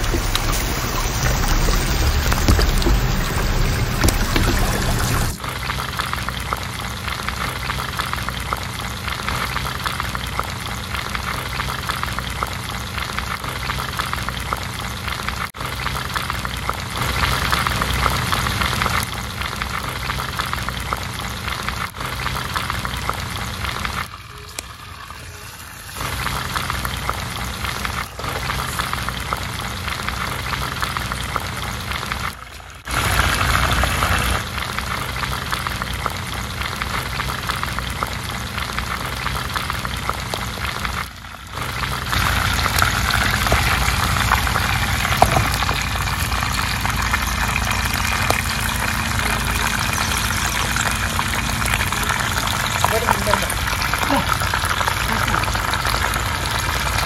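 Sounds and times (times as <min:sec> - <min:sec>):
food sizzling as it fries: 0:00.0 - 0:57.0.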